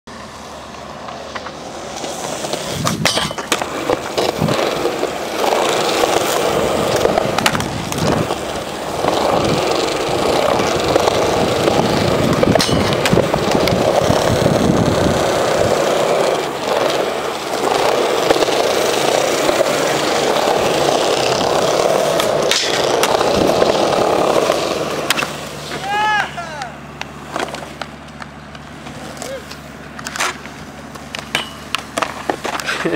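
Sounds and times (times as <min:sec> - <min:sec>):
skateboard grinding metal rails: 0:00.1 - 0:26.4, 0:27.2 - 0:32.9
skateboard wheels rolling on concrete: 0:00.1 - 0:32.9
skateboard popping and landing: 0:00.6 - 0:25.9, 0:26.6 - 0:32.9.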